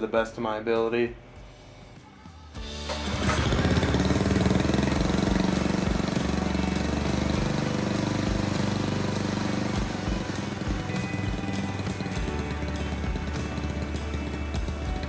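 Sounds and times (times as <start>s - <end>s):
small gasoline engine running: 2.7s - 15.0s.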